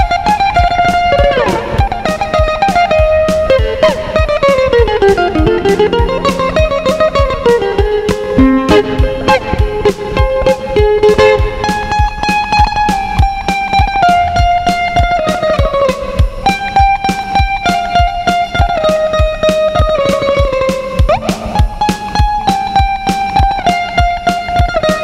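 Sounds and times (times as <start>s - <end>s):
bouzouki melody: 0.0s - 25.0s
steady beat: 0.0s - 25.0s.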